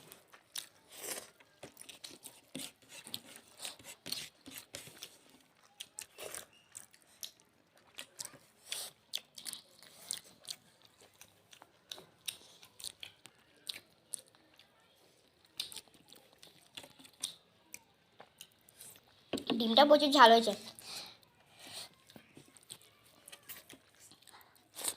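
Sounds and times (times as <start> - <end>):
chewing: 0.0 - 19.2, 20.8 - 24.9
food crunching: 0.1 - 19.1, 22.0 - 24.9.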